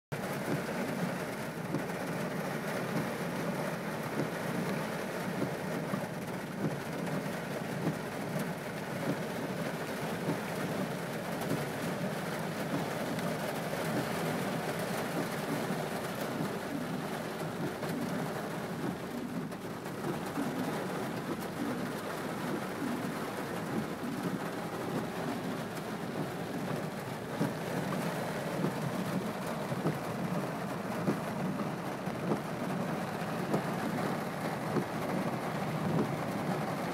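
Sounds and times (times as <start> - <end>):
heavy rain: 0.2 - 36.9.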